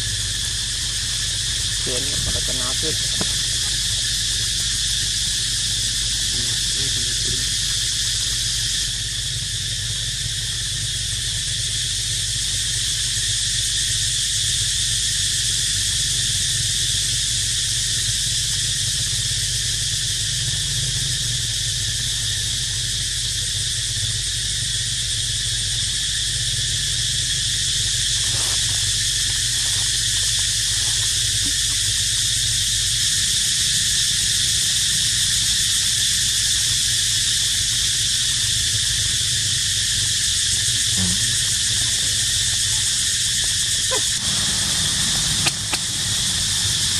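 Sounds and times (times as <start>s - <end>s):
cicadas droning: 0.0s - 46.9s.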